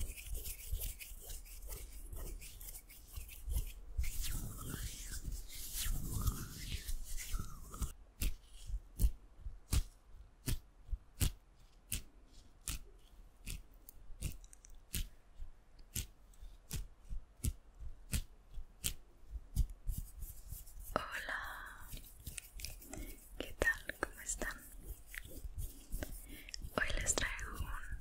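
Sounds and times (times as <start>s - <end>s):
soft rustling: 0.0s - 28.0s.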